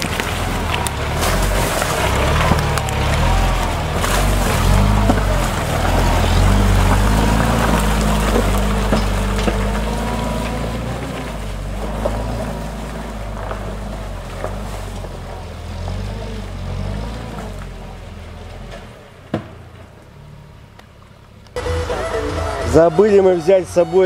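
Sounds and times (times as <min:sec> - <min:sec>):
car engine under load: 0:00.0 - 0:23.0.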